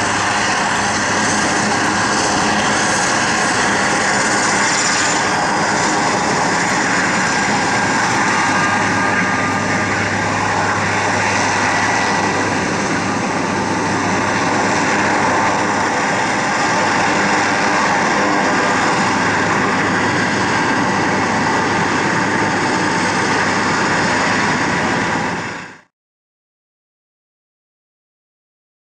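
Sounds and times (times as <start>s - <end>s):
helicopter rotors turning: 0.0s - 25.8s
helicopter turbine whine: 0.0s - 25.9s.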